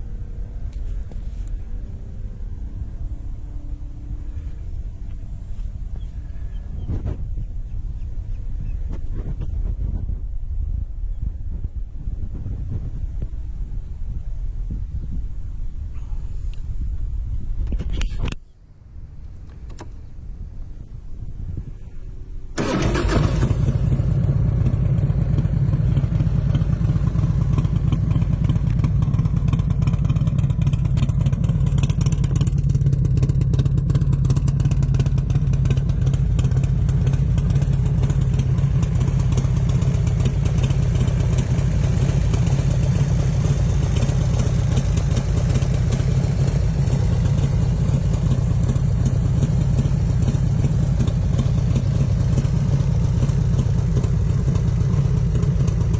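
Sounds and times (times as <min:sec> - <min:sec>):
motorcycle engine running: 0:00.0 - 0:18.2, 0:20.0 - 0:55.9.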